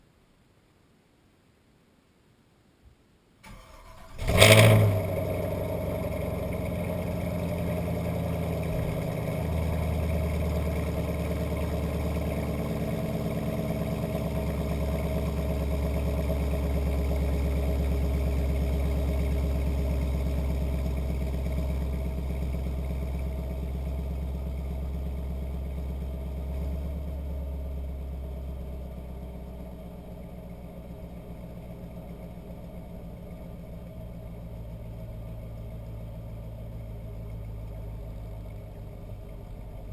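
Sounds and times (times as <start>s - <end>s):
car engine cold start and idle: 3.4s - 39.9s.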